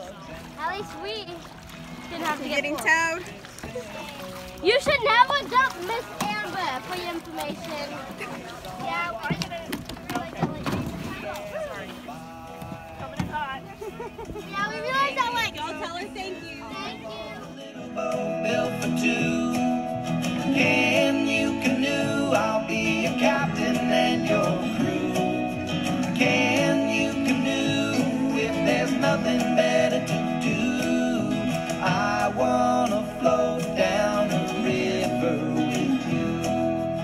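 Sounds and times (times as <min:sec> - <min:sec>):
acoustic folk song with guitar: 0:00.0 - 0:37.0.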